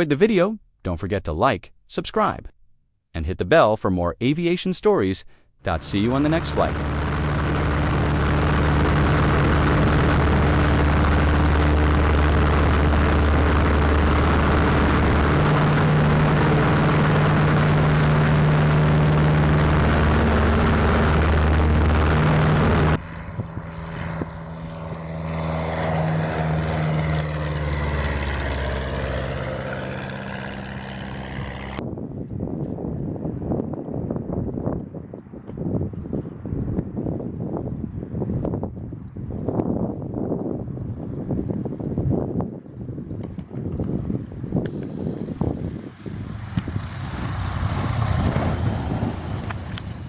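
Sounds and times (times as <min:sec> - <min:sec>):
propeller airplane engine: 0:05.5 - 0:50.0.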